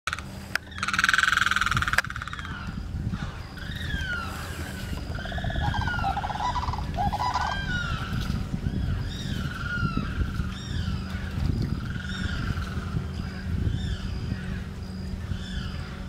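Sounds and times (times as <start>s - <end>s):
loud harsh bird call: 0.1s - 16.0s
low rattling bird notes: 0.1s - 16.0s.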